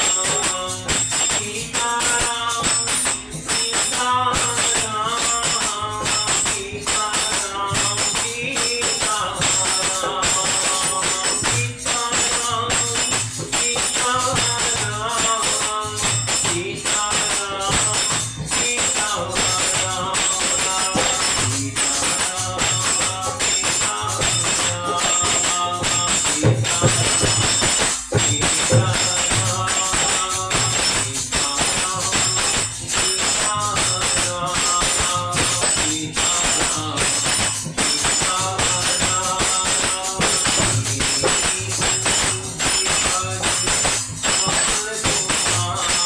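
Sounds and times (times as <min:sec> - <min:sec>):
jingling percussion: 0:00.0 - 0:46.0
repeating drum beat: 0:00.0 - 0:46.0.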